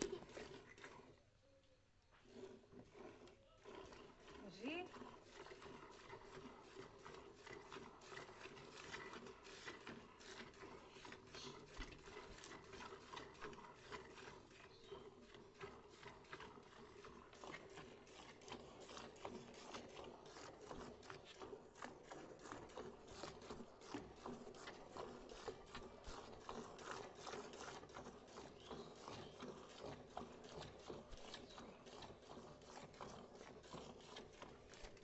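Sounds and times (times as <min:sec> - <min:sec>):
milk squirting into a pail: 0:00.0 - 0:35.0.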